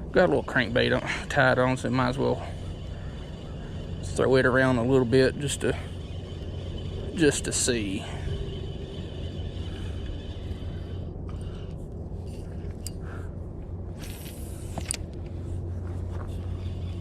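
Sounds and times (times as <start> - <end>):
fishing reel scrapes and ticks: 0.0 - 13.0, 14.0 - 15.4, 16.0 - 17.0
low rumble: 0.0 - 17.0
fishing line hissing off spool: 0.2 - 13.0, 14.0 - 15.0.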